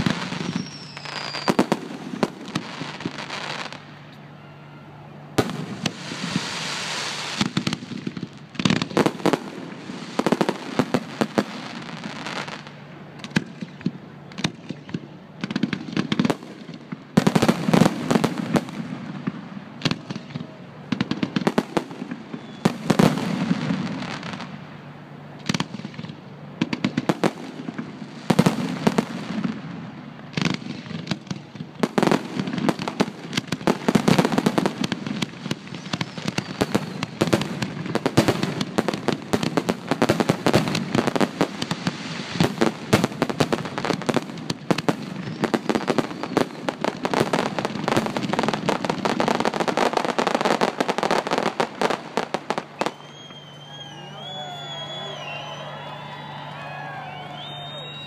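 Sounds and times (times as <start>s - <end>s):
fireworks bursting: 0.0s - 4.2s, 5.3s - 58.0s.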